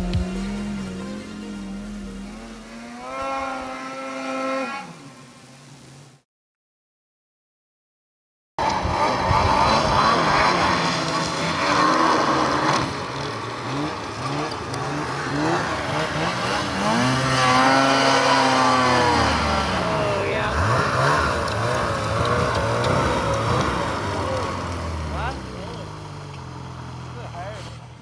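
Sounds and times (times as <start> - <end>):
snowmobile engine revving: 0.0 - 5.2, 8.6 - 28.0.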